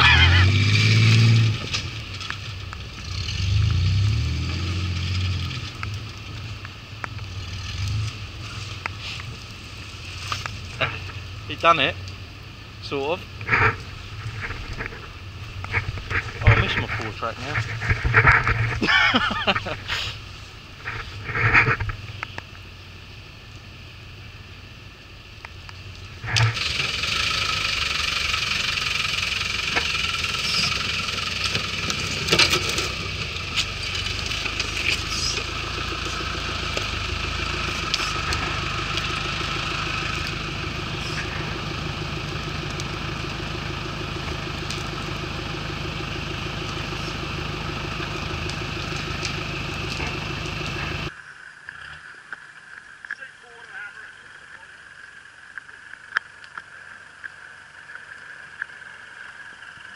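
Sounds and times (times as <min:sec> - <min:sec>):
engine running at low revs: 0:00.0 - 0:51.2.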